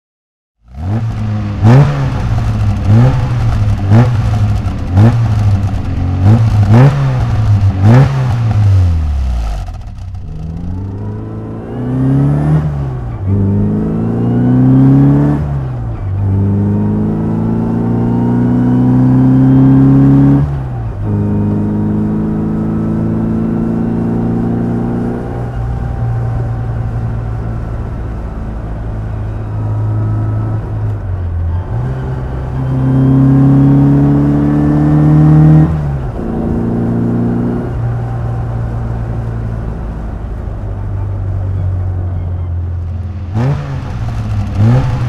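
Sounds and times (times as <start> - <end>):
car engine revving: 0.6 - 45.0.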